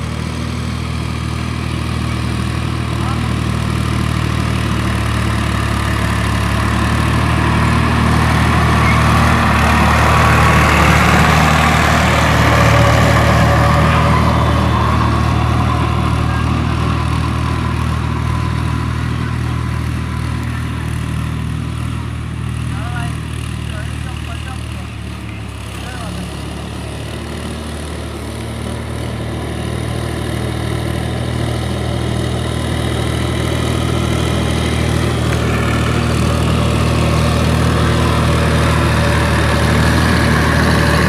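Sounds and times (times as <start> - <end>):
power tiller engine running: 0.0 - 41.0.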